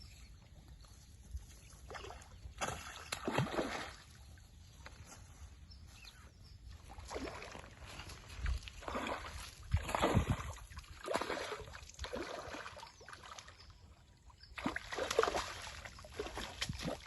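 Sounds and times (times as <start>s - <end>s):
water splashing and sloshing: 0.0s - 5.6s, 6.6s - 17.0s.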